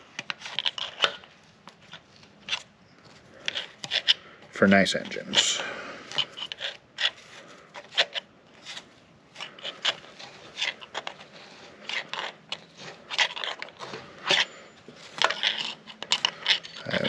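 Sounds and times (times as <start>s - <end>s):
rope scraping and rubbing: 0.0s - 4.2s, 5.0s - 17.0s.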